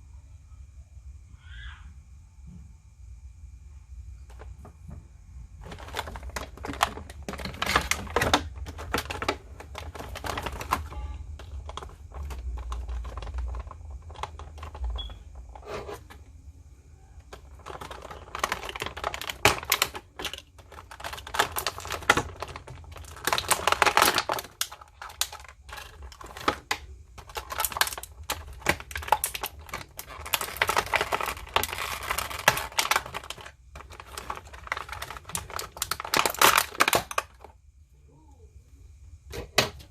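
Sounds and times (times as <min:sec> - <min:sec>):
hard plastic clicking and crinkling: 0:04.2 - 0:05.0, 0:05.6 - 0:16.4, 0:17.2 - 0:37.6.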